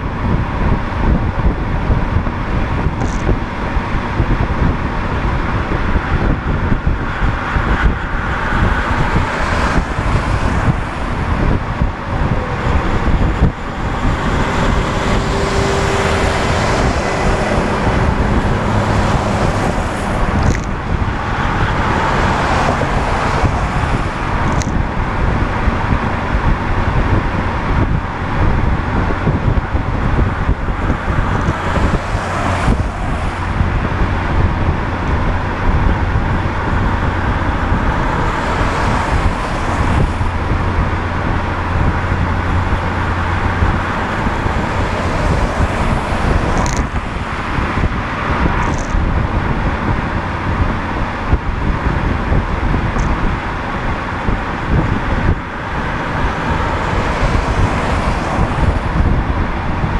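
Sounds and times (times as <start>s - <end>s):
tyre and wind road noise: 0.0s - 59.9s
vehicles passing: 0.0s - 59.9s.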